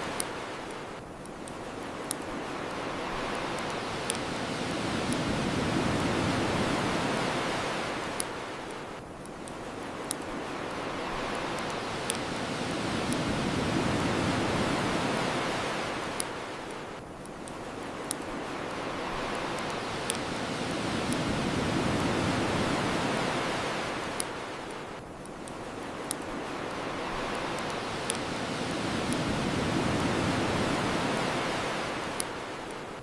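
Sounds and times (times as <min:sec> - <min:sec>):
ocean waves washing onto shore: 0:00.0 - 0:33.0
bonfire crackling pops: 0:00.1 - 0:07.3, 0:08.0 - 0:15.3, 0:17.2 - 0:32.8.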